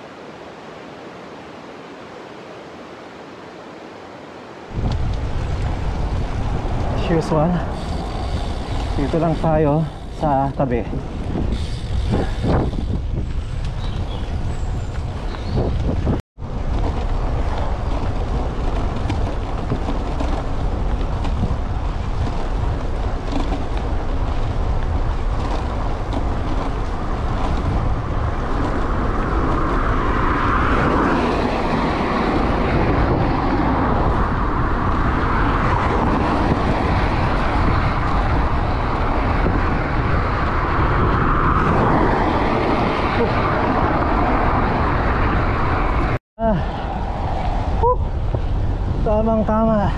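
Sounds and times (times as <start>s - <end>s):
bike tyre noise on road: 0.0s - 49.9s
road traffic noise: 0.0s - 49.9s
wind rumble on microphone: 4.2s - 49.9s.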